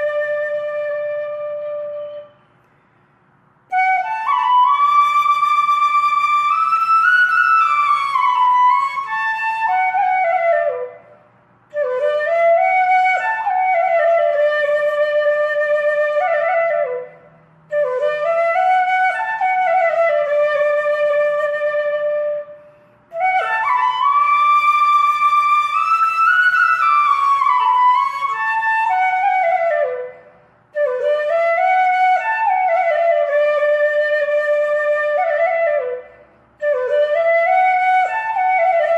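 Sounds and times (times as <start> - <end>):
solo flute melody: 0.0 - 2.7, 3.7 - 38.9.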